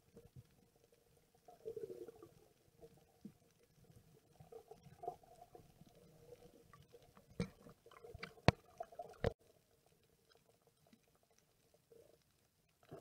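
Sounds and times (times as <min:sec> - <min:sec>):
underwater clicking and crackling: 0:00.0 - 0:13.0.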